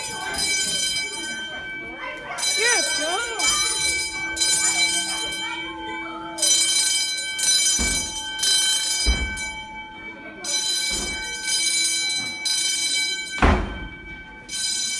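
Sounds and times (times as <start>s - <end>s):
fire alarm horn blasts: 0.0s - 14.9s.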